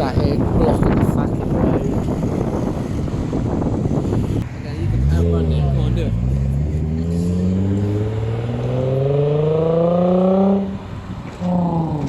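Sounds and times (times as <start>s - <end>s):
car engine revving: 1.8s - 12.0s.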